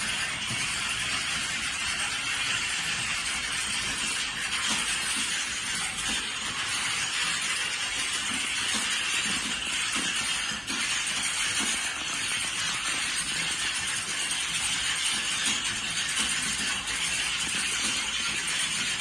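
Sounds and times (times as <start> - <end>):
many keyboards typing clatter: 0.0 - 19.0.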